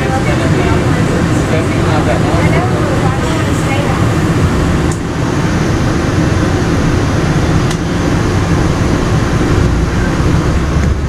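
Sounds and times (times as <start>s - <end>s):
vehicle rumbling: 0.0s - 11.0s.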